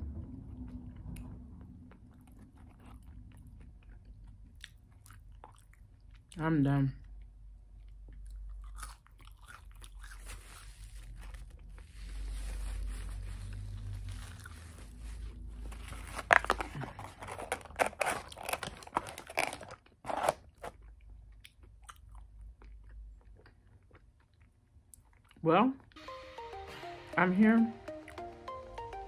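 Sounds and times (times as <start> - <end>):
crunchy chewing of fries: 0.4 - 26.0.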